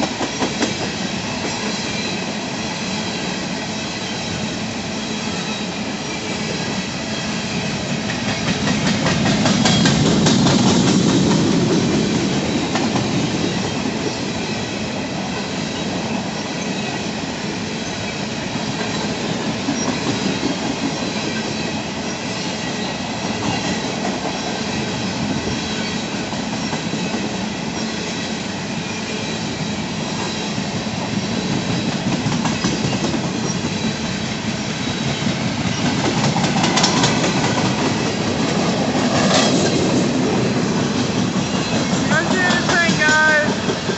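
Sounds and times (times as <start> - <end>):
steel wheels clattering on rails: 0.0 - 3.3, 4.0 - 43.9
freight train rolling past: 0.0 - 43.9.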